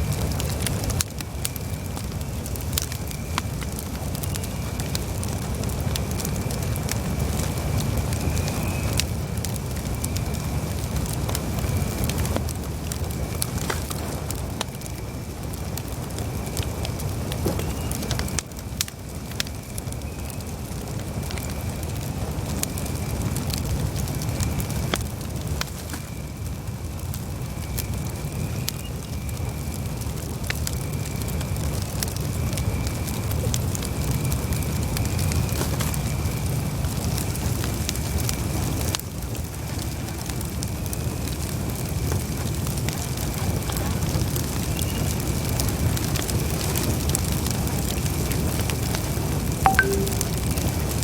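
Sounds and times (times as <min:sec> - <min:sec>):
burning wood crackling and popping: 0:00.0 - 0:51.0
campfire flames rumbling: 0:00.0 - 0:51.0.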